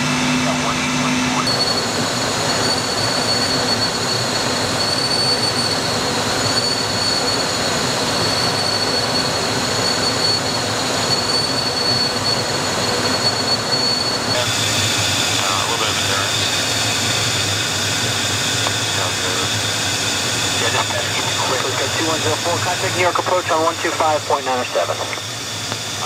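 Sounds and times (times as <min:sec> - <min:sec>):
high steady whine: 0:00.0 - 0:26.0
jet cabin airflow and engine rush: 0:00.0 - 0:26.0.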